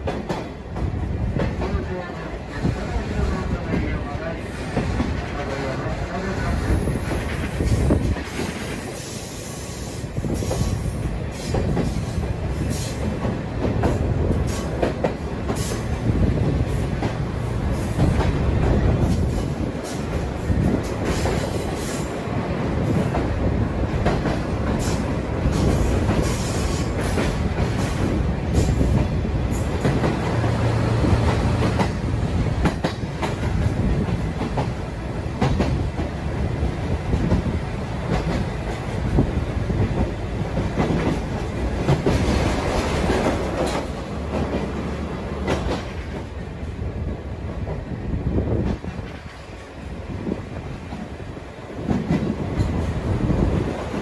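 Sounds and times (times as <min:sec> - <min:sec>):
train carriages rumbling: 0:00.0 - 0:54.0.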